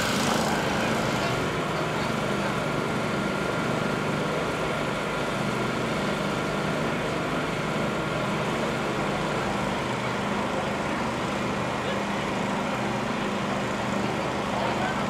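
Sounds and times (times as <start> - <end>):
engine noise with high whine: 0.0 - 15.0.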